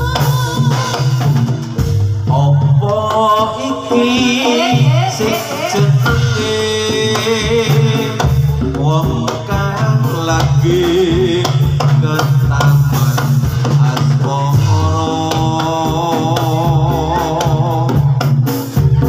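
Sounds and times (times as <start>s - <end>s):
hand drums beating: 0.0s - 19.0s
person singing: 0.0s - 19.0s.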